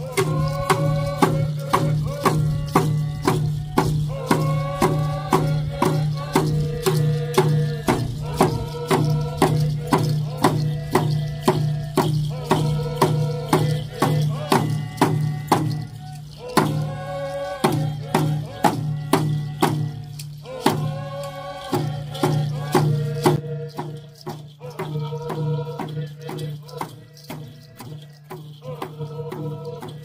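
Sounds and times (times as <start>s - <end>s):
drum beaten steadily: 0.0s - 30.0s
voices singing chant-like phrases: 0.0s - 30.0s.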